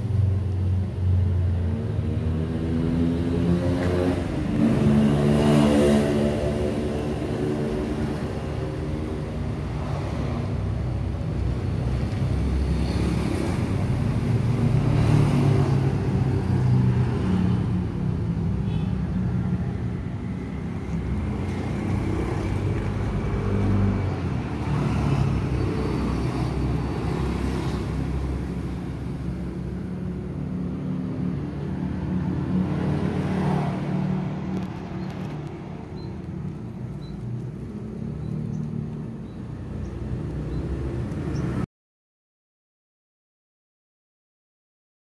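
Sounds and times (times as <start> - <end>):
road traffic rumble: 0.0 - 41.7.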